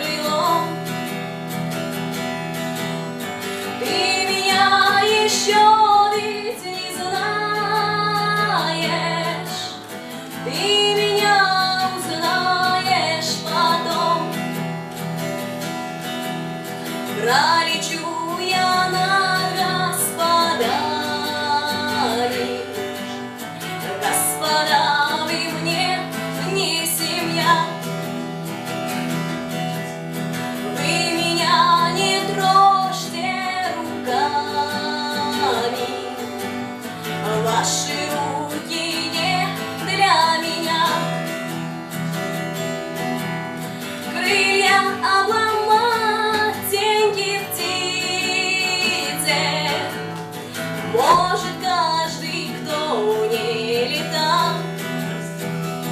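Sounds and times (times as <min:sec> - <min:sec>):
plucked acoustic guitar: 0:00.0 - 0:55.9
woman singing: 0:00.0 - 0:55.9.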